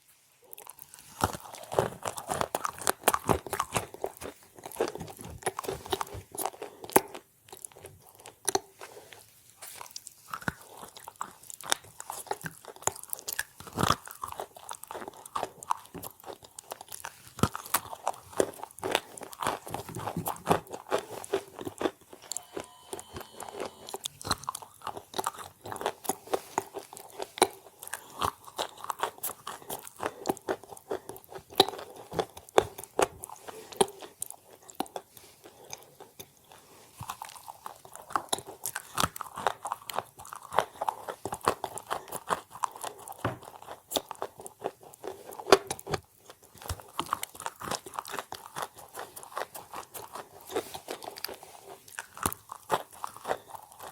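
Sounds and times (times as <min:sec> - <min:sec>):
person chewing chalk crunching: 0:00.0 - 0:53.9.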